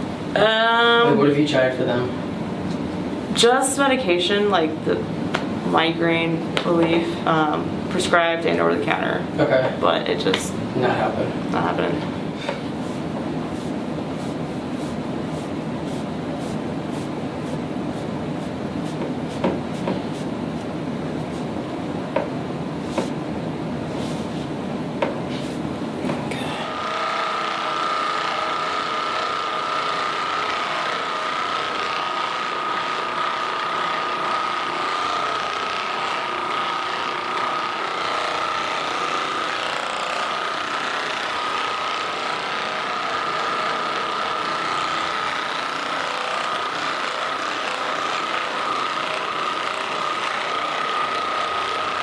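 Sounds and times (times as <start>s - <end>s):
massage gun motor buzzing: 2.7s - 21.5s, 26.1s - 52.0s.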